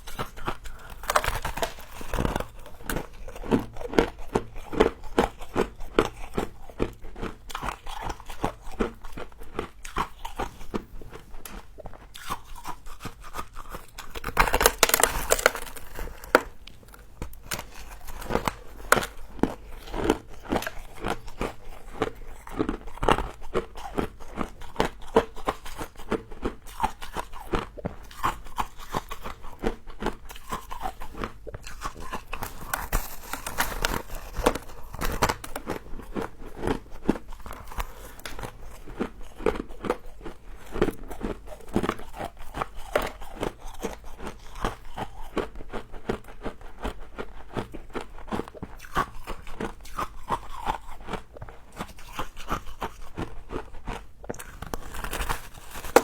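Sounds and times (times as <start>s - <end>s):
crunching and chewing frost: 0.0s - 56.0s.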